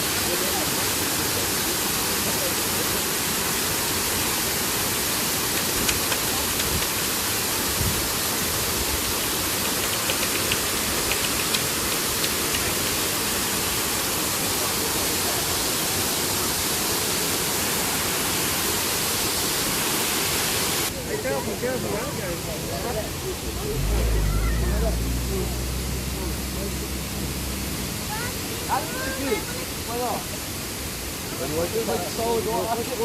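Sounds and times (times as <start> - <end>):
waterfall rushing over rocks: 0.0 - 33.0.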